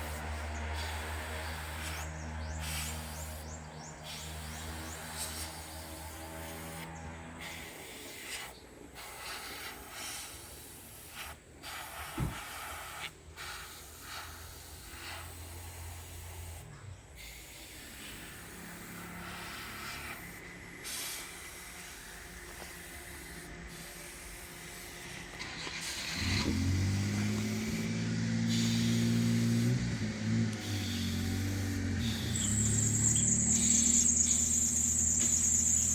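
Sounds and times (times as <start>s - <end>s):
airbrush spraying paint: 0.0s - 35.9s.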